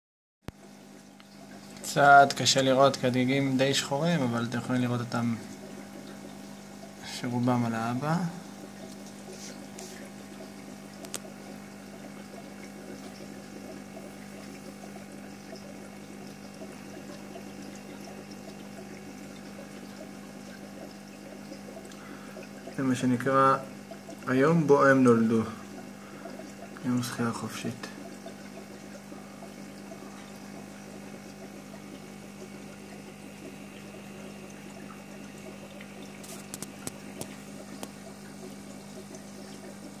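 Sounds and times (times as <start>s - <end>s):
aquarium sponge filter bubbling: 0.5s - 40.0s
low steady hum: 0.5s - 40.0s
water trickling: 0.5s - 40.0s.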